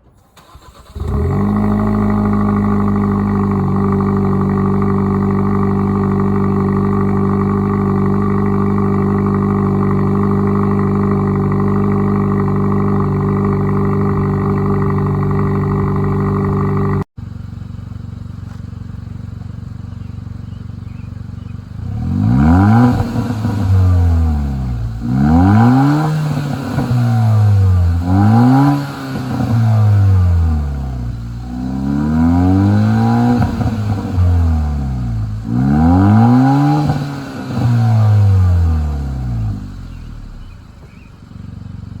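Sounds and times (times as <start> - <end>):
car engine revving: 0.0 - 42.0
exhaust crackles and pops: 0.0 - 42.0.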